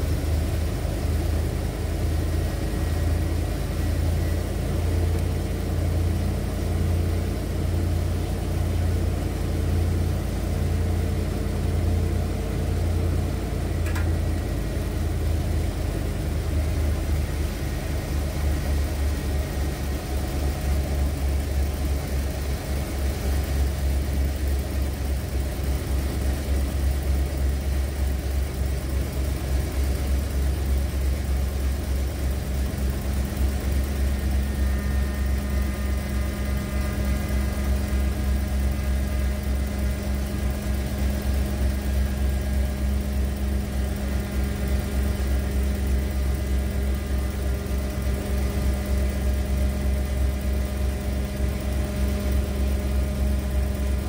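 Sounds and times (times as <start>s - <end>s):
steady whine: 0.0s - 54.0s
van engine idling: 0.0s - 54.0s.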